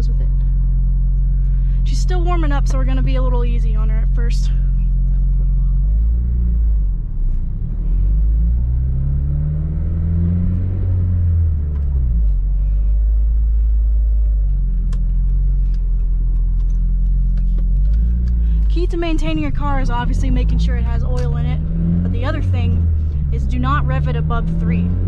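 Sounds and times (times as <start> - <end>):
car engine pulling away: 0.0 - 25.0.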